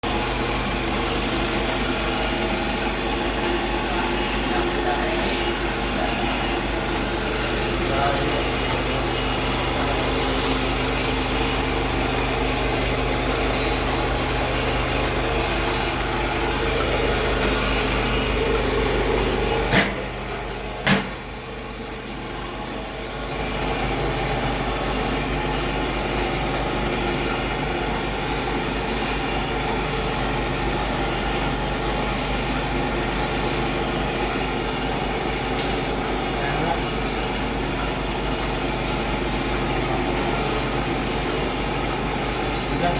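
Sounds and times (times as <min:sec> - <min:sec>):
machine motor hum: 0:00.0 - 0:42.9.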